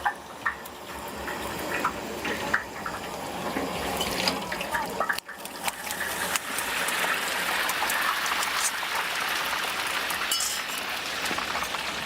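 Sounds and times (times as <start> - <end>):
tofu deep-frying in oil: 0.0 - 12.0.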